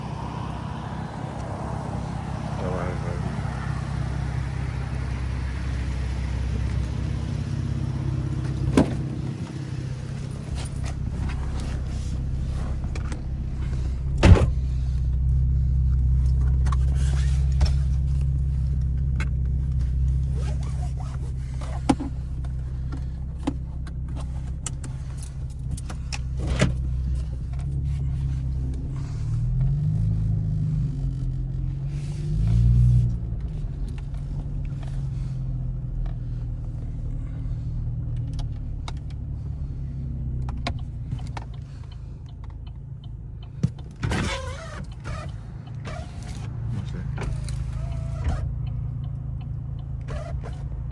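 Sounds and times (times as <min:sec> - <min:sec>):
car engine revving: 0:00.0 - 0:41.8, 0:43.0 - 0:50.9.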